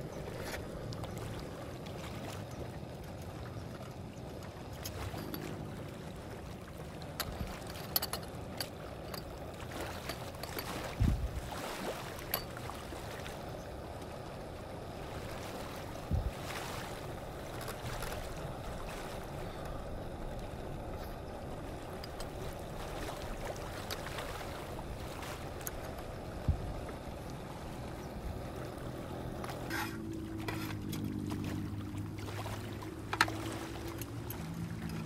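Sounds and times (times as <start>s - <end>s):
steady water noise: 0.0s - 35.0s.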